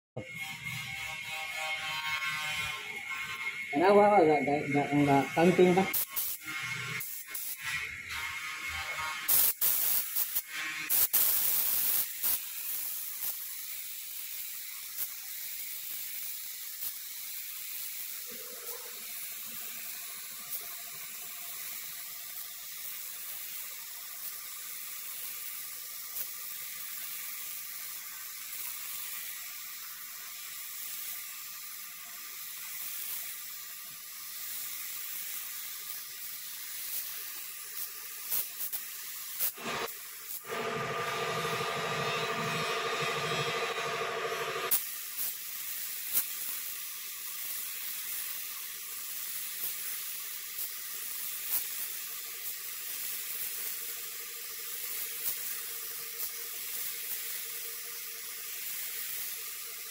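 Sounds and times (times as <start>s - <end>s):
spray gun hissing: 3.8s - 7.6s, 9.2s - 59.9s.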